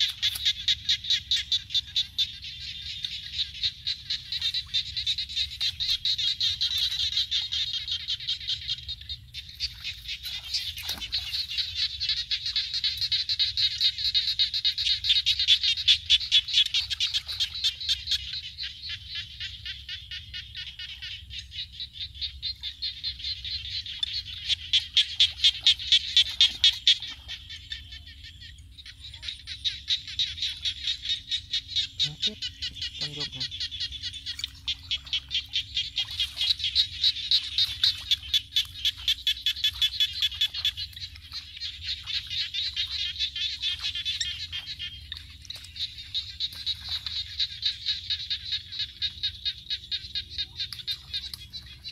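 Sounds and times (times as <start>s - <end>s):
frogs calling: 0.0s - 51.9s.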